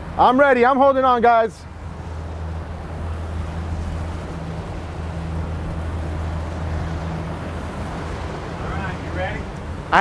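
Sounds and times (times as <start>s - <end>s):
outboard engines droning: 0.0s - 10.0s
wind: 0.0s - 10.0s
wake rushing: 1.1s - 10.0s.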